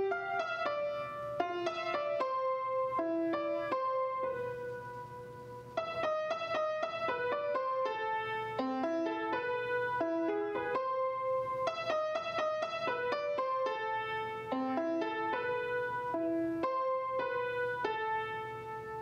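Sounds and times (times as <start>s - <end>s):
upright piano melody: 0.0s - 19.0s.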